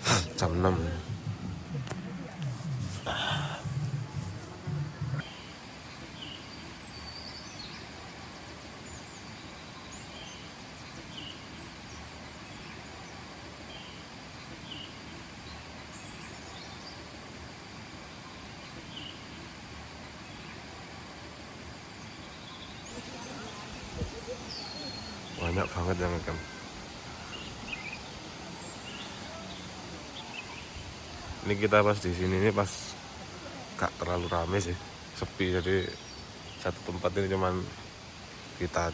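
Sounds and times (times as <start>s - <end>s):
small birds chirping: 0.0s - 38.9s
river rushing: 4.4s - 38.9s.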